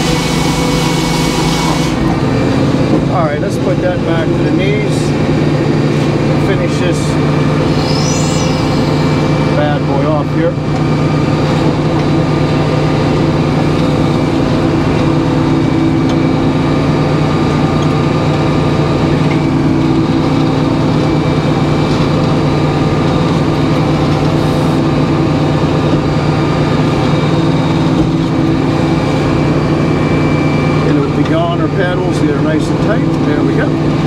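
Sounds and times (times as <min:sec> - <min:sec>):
circular sawmill blade spinning: 0:00.0 - 0:34.0.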